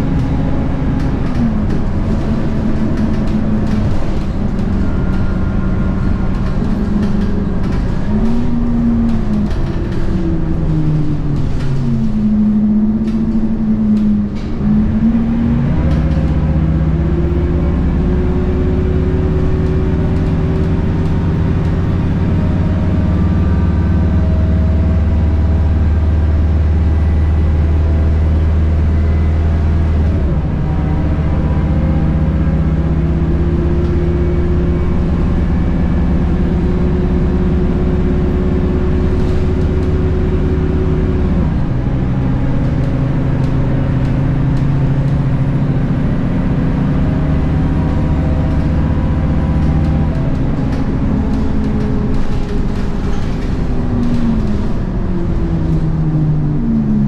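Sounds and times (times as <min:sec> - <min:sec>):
bus diesel engine accelerating: 0:00.0 - 0:57.0.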